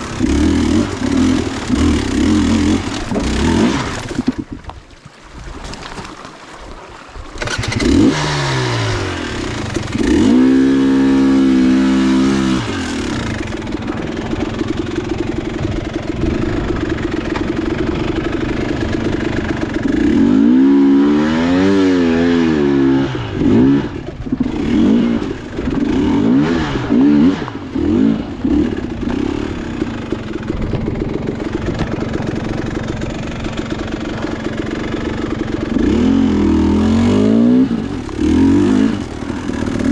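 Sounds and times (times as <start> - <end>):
dirt bike engine revving: 0.0 - 4.4, 7.4 - 39.9.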